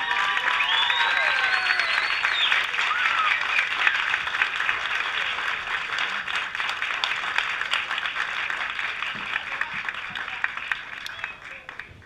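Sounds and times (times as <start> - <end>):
group of people clapping: 0.0 - 12.0.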